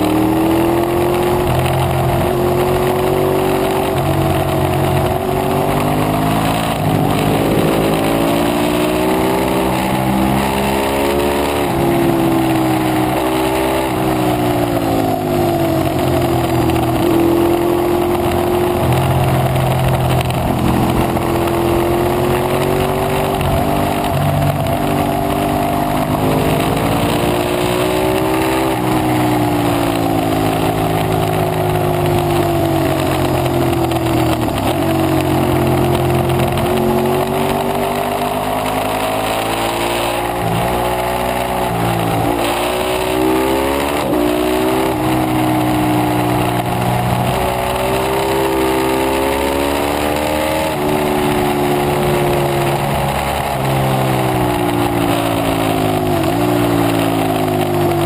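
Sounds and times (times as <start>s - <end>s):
motorcycle engine revving: 0.0s - 58.0s
wind rush on camera: 0.0s - 58.0s.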